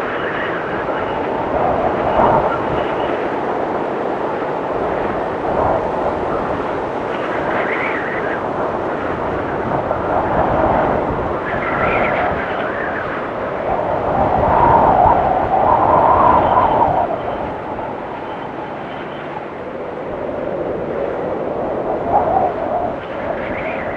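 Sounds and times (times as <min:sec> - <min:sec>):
blizzard wind howling: 0:00.0 - 0:23.9.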